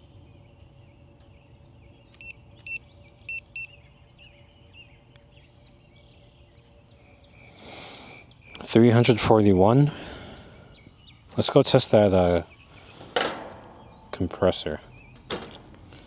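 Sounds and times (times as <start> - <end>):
faint bird chirps: 0.0 - 9.8, 10.4 - 15.3
faint steady hum: 0.0 - 16.0.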